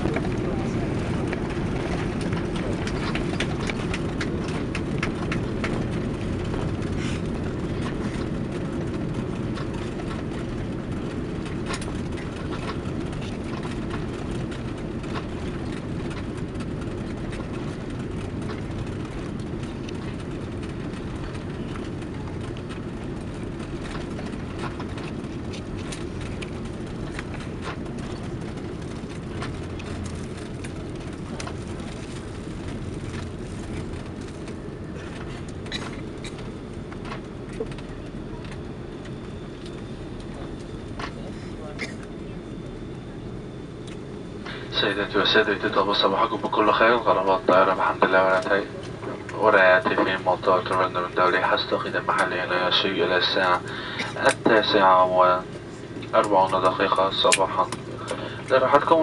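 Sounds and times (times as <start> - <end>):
aircraft cabin low rumble: 0.0 - 59.0.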